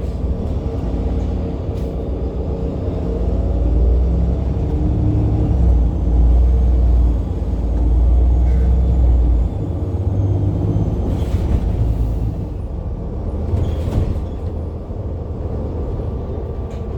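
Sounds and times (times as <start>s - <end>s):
bus diesel engine under load: 0.0s - 16.9s.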